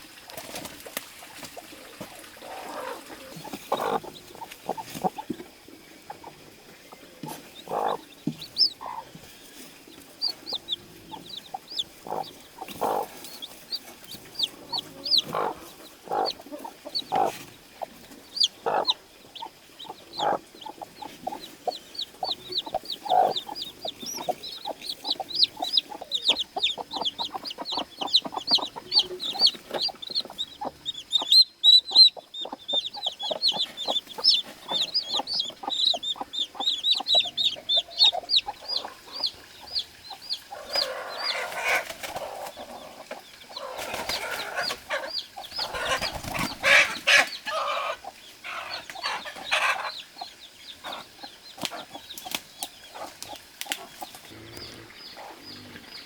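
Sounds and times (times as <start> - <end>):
chicken clucking: 1.4 - 56.0
chicks peeping: 1.4 - 56.0.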